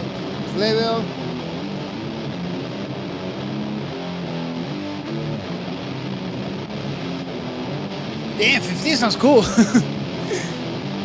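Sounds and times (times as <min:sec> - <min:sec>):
distorted electric guitars: 0:00.0 - 0:11.0.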